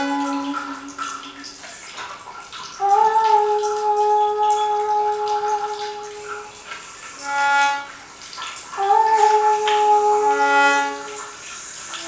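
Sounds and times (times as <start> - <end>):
reed instrument sustained tones: 0.0 - 1.4, 2.8 - 12.0
faint watery hiss: 0.0 - 12.0.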